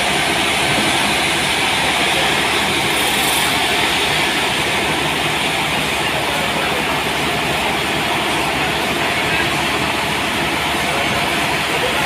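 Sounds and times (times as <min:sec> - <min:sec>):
sawmill rushing hiss: 0:00.0 - 0:11.8
engine pulsing: 0:00.0 - 0:12.0.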